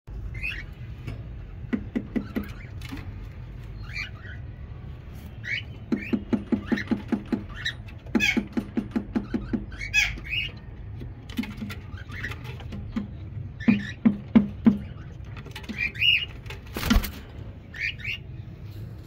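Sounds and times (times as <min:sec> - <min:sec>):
parakeets chirping: 0:00.1 - 0:18.9.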